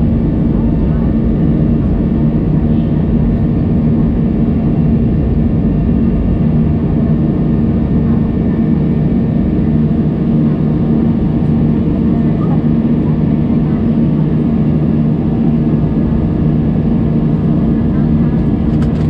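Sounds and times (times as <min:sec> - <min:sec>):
jet engine drone in cabin: 0:00.0 - 0:19.0.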